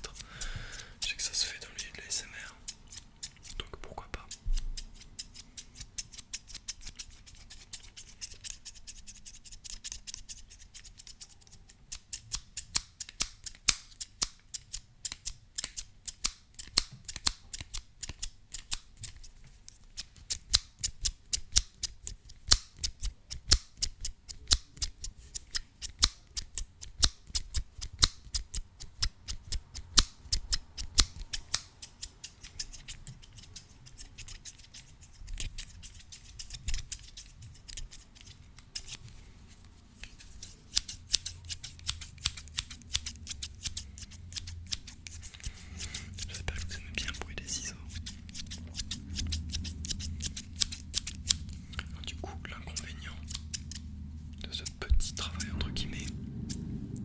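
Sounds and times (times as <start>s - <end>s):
scissors snipping: 0.0s - 2.0s, 2.6s - 39.2s, 40.0s - 52.0s, 52.7s - 53.9s, 54.5s - 56.6s.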